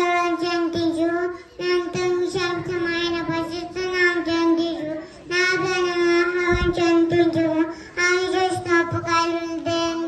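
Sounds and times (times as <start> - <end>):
girl singing into microphone: 0.0 - 10.0.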